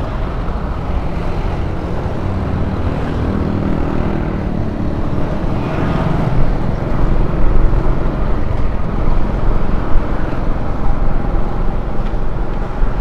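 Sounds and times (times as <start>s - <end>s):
road noise: 0.0s - 13.0s
wind rumbling on microphone: 0.0s - 13.0s.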